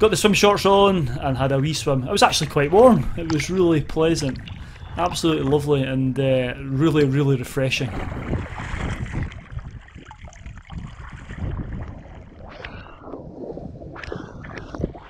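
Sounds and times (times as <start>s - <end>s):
water lapping and sloshing: 0.0s - 15.0s
splashes of wading: 0.8s - 6.1s, 7.0s - 15.0s
wind rumbling on the microphone: 1.8s - 15.0s.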